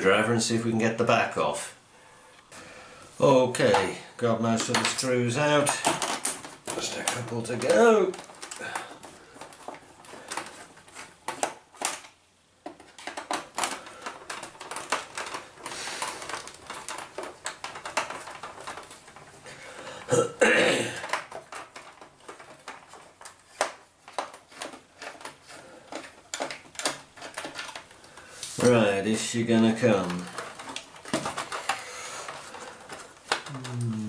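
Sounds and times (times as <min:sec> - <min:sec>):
plastic case shifting on bench: 0:03.6 - 0:33.5.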